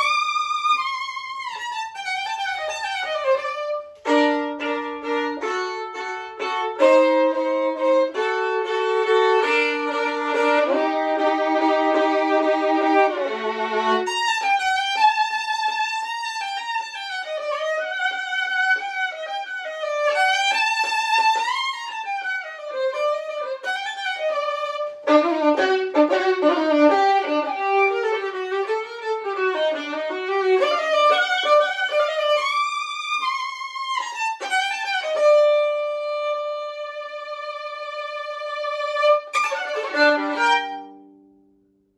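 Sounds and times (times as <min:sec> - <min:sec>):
solo violin melody: 0:00.0 - 0:41.4.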